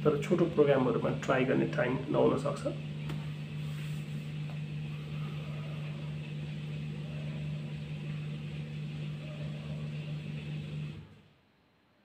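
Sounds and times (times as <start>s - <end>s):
dishwasher motor hum: 0.0s - 11.4s.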